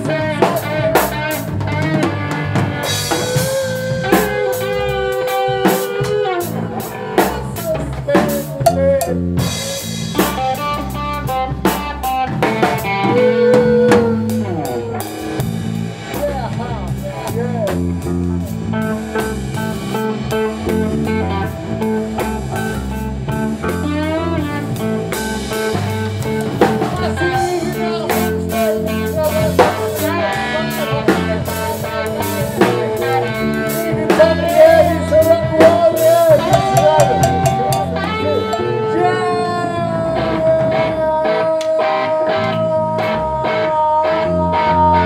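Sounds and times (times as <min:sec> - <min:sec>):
drums and cymbals: 0:00.0 - 0:39.1
electric guitar with bent notes: 0:00.0 - 0:45.0.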